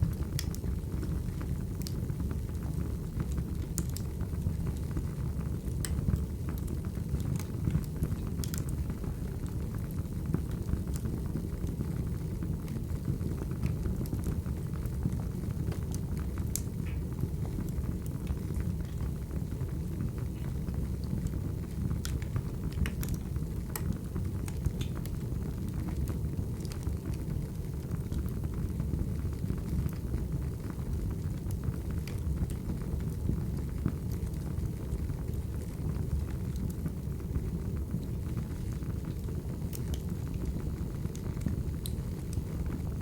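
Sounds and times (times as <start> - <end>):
fire crackles and pops: 0.0 - 43.0
wood fire rumbling: 0.0 - 43.0.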